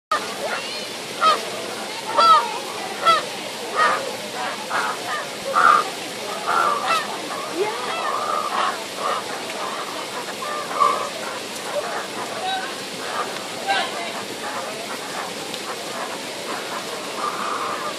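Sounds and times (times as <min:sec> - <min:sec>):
birds squabbling harsh calls: 0:02.1 - 0:17.9.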